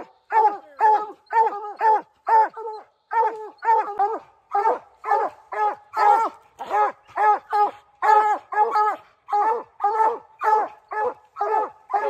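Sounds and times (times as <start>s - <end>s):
hounds barking: 0.0s - 12.0s.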